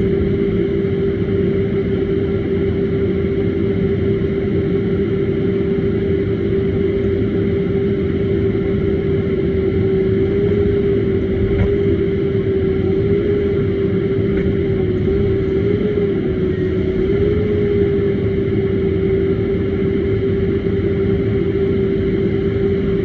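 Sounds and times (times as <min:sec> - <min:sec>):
engine drone with humming whine: 0:00.0 - 0:23.0.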